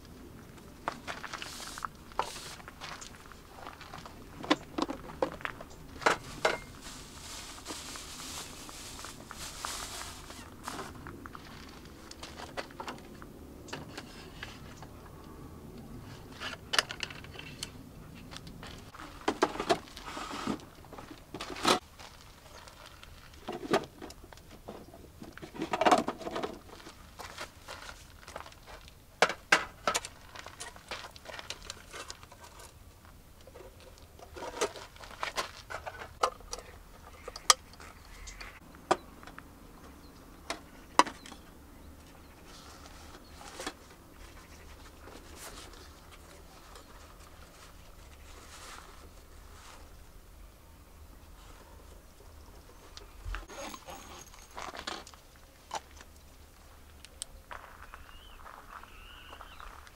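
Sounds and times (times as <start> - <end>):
rustling and crinkling: 0.0 - 15.0, 15.9 - 59.9.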